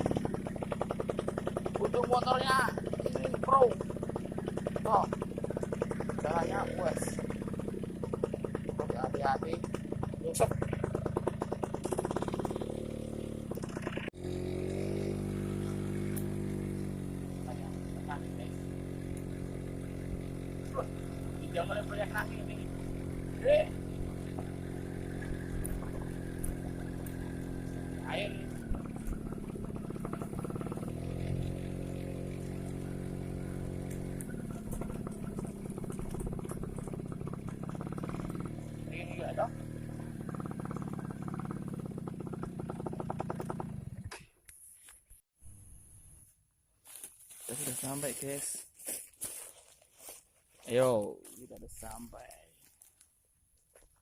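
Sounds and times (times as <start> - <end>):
motorcycle engine running: 0.0 - 44.2.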